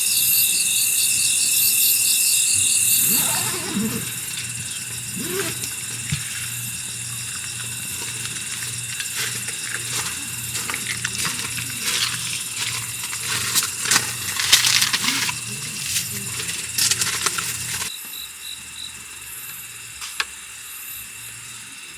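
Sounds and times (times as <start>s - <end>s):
cicadas buzzing: 0.0s - 21.9s
outdoor background: 0.0s - 21.9s.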